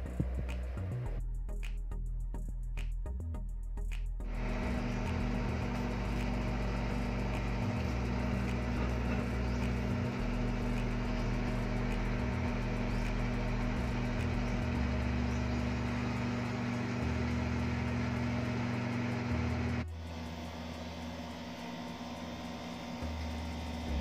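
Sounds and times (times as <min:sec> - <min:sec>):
low hum of appliance running: 0:04.3 - 0:24.0.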